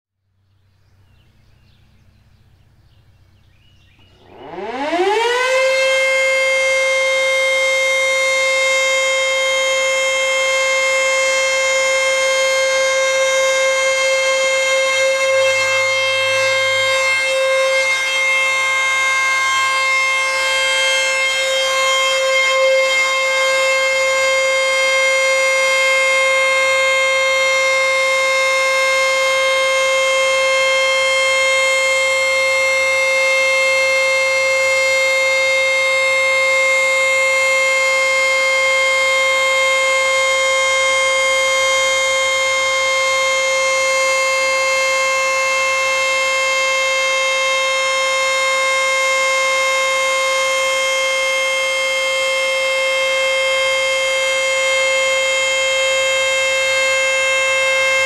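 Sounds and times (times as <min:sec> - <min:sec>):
warning siren winding up: 0:04.0 - 0:58.0.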